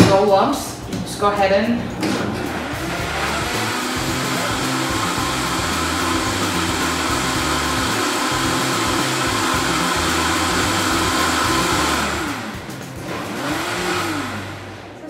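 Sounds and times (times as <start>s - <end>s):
blender running: 2.3s - 15.0s.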